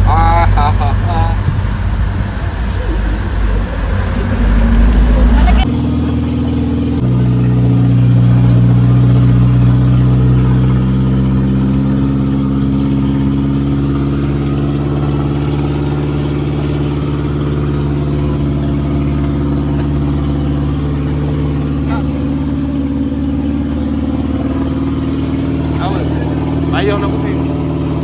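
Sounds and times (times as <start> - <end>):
vehicle engine humming steadily: 0.0 - 28.0.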